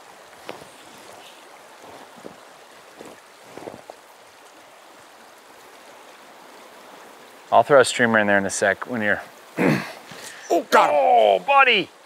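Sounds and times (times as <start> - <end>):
river water rushing over riffles: 0.0 - 12.0.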